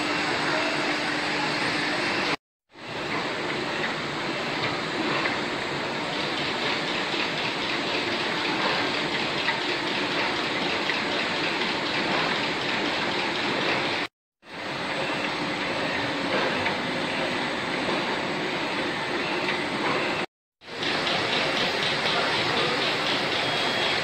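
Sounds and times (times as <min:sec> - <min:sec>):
factory machinery whirring: 0:00.0 - 0:24.0.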